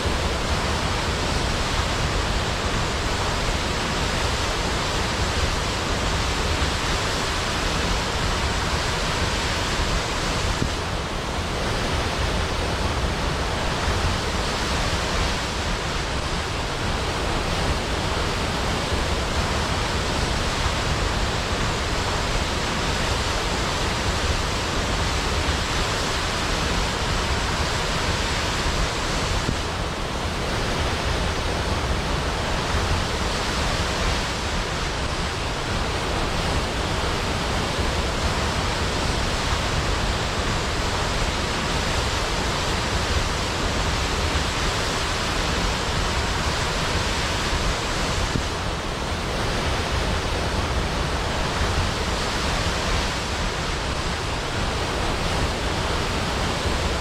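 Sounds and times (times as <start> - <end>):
large waterfall rushing: 0.0 - 57.0.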